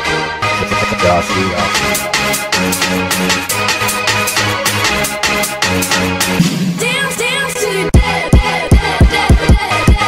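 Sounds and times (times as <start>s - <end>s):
electronic music with fast beat: 0.6s - 10.0s.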